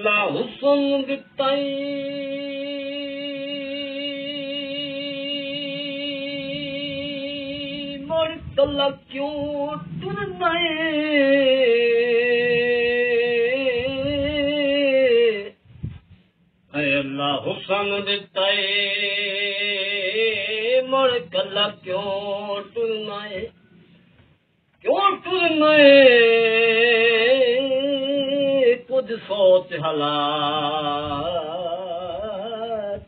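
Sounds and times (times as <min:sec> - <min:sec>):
man singing unaccompanied: 0:00.0 - 0:15.6, 0:16.6 - 0:23.6, 0:24.7 - 0:33.0.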